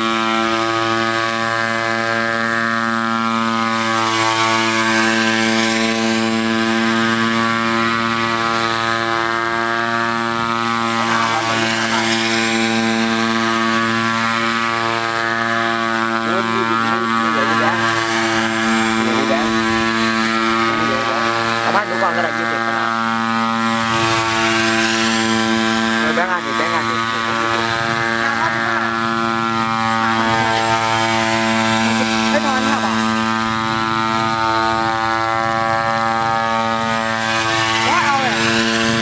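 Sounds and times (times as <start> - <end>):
drone engine and propellers: 0.0 - 39.0.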